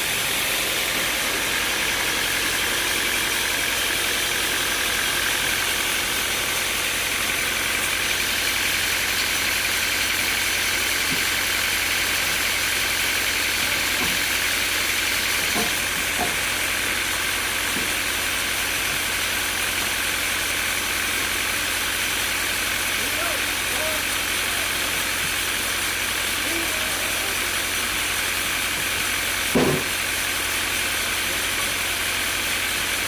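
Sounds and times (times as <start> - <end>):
sawmill engine running: 0.0 - 33.0.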